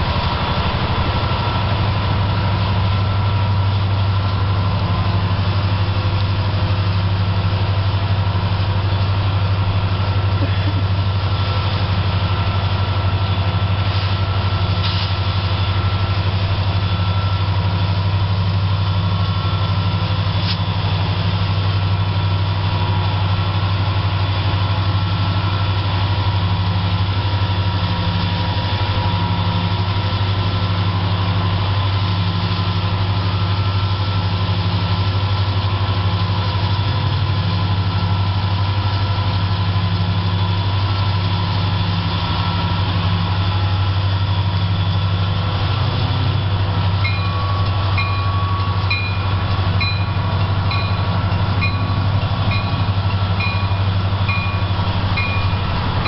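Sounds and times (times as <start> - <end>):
diesel locomotive engines idling: 0.0 - 56.0.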